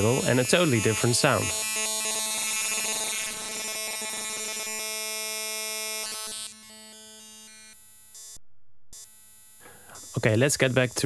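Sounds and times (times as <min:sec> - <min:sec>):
synthetic buzzing tone: 0:00.0 - 0:11.0.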